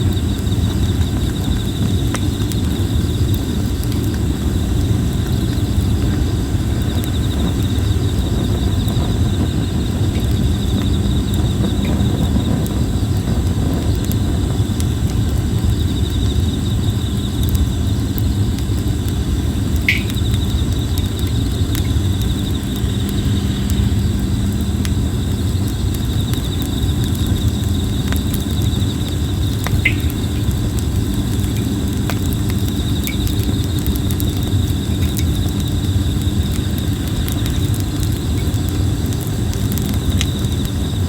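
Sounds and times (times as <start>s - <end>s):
campfire crackling: 0.0s - 41.0s
insects trilling: 0.0s - 41.0s.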